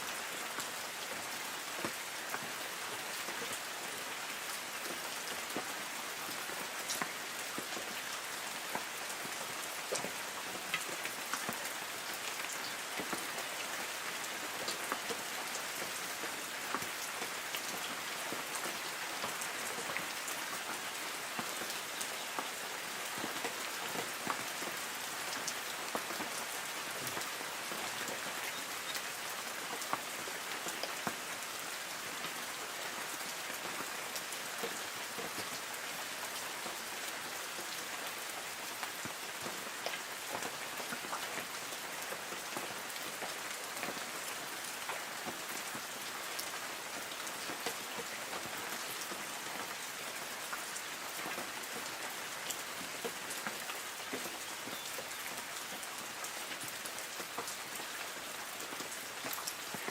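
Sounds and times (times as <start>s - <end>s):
light rain hissing: 0.0s - 59.9s.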